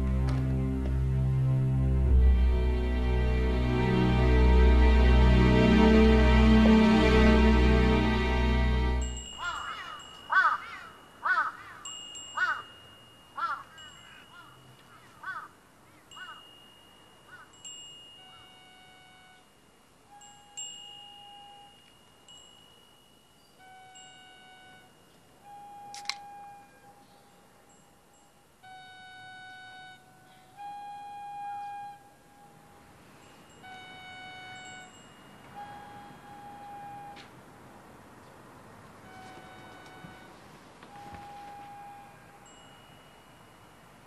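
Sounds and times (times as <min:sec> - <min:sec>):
chime-like tones: 0:02.0 - 0:15.2, 0:16.1 - 0:30.6, 0:32.0 - 0:37.2, 0:39.0 - 0:44.0.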